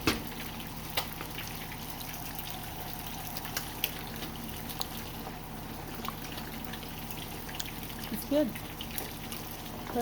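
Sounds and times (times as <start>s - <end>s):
soup bubbling: 0.0s - 10.0s.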